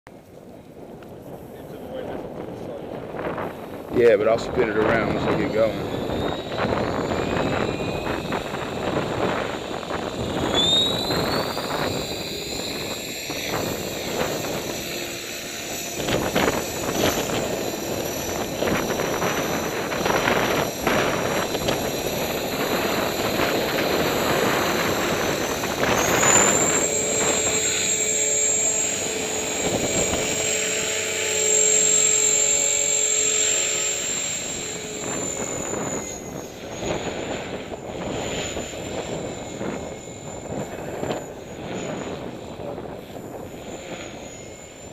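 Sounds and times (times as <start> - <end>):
rc helicopter rotor whine: 0.1 - 44.9
wind buffeting microphone: 0.1 - 44.9.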